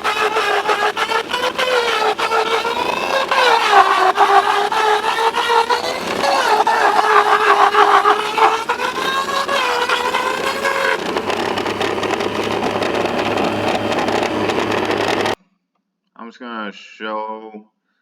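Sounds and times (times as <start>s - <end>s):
motor whine: 0.0s - 15.4s
rough running noise with low hum: 0.0s - 15.4s.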